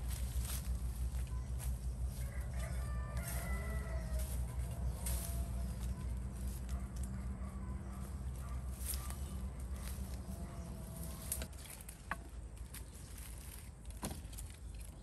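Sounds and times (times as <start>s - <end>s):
low hum: 0.0s - 13.6s.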